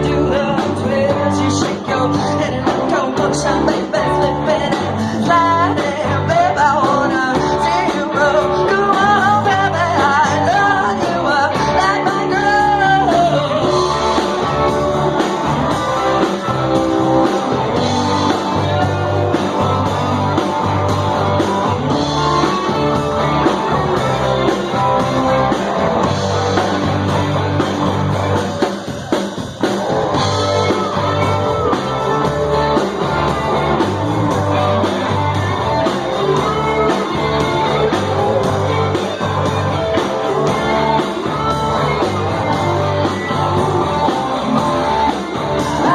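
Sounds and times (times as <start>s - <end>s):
bass guitar: 0.0s - 45.9s
drum kit beat: 0.0s - 45.9s
fuzzy electric guitar: 0.0s - 45.9s
person singing: 0.0s - 45.9s.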